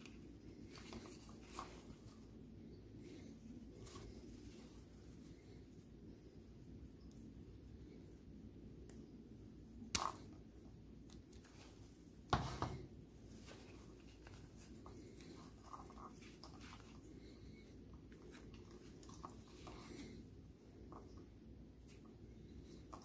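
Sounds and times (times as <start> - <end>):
faint rustles and ticks: 0.0 - 9.2, 13.2 - 23.0.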